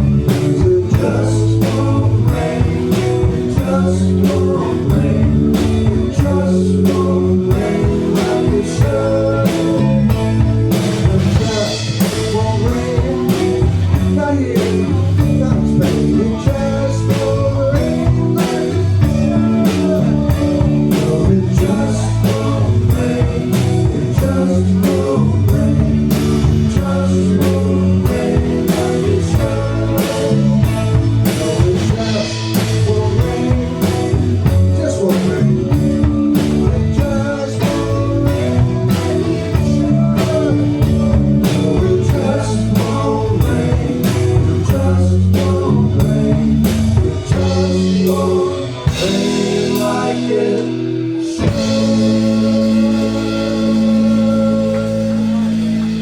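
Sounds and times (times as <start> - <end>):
blues-rock band playing: 0.0 - 56.0
drum kit beat: 0.0 - 56.0.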